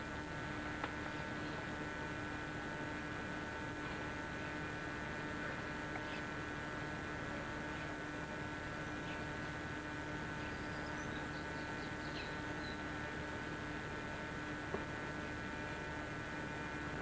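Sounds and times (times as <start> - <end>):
hiss and electrical hum: 0.0 - 17.0.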